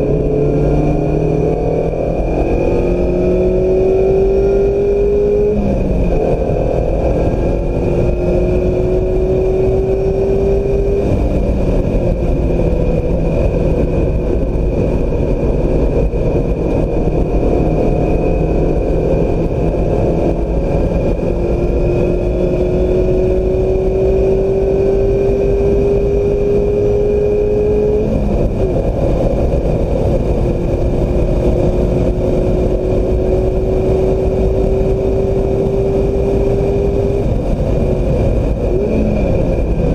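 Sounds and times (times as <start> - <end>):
car engine revving: 0.0 - 39.9
road and wind noise: 0.0 - 39.9.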